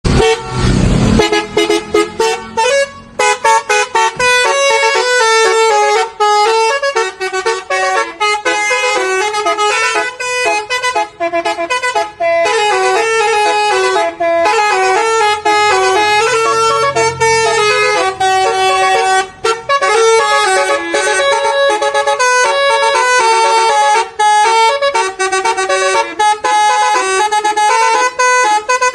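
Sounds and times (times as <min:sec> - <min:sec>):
bus horn playing a tune: 0:00.1 - 0:28.9.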